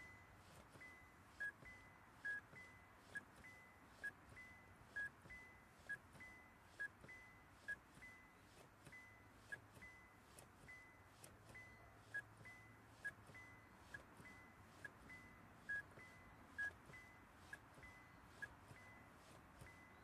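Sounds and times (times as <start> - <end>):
two-tone car warning chime: 0.0 - 20.0.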